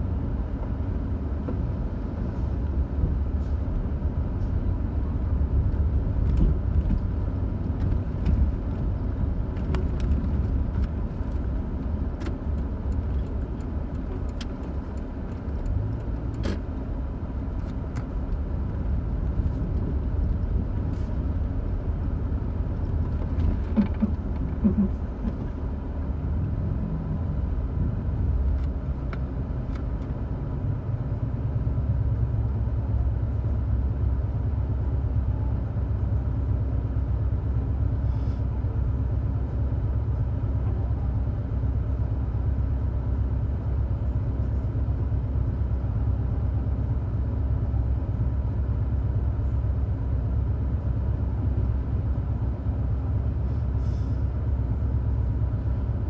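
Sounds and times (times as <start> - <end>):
car engine idling rumble: 0.0 - 56.0.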